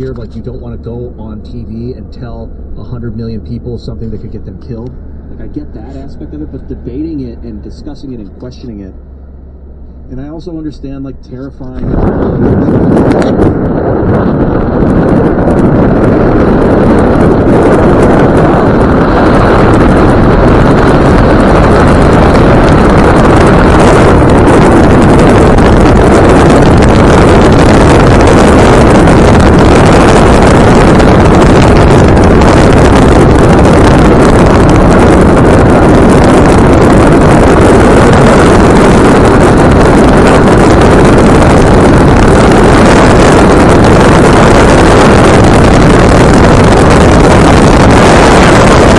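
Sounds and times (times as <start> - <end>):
car engine: 0.0 - 48.9
tyre noise on road: 0.0 - 48.9
wind buffeting microphone: 0.0 - 48.9.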